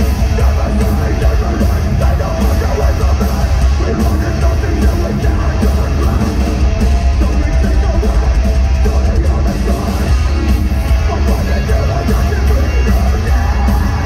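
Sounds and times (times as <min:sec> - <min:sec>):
heavy metal band playing live: 0:00.0 - 0:14.0.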